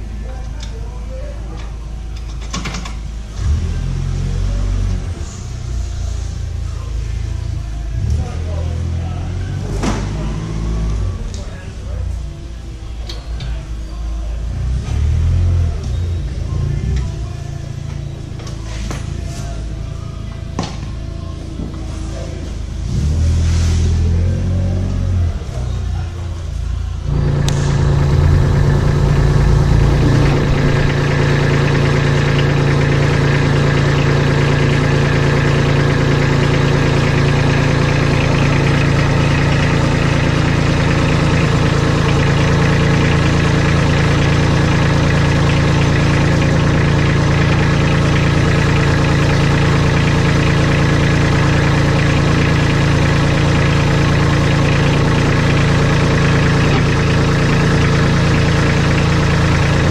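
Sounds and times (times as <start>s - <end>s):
diesel tractor engine idling: 0.0s - 23.0s, 23.9s - 59.9s.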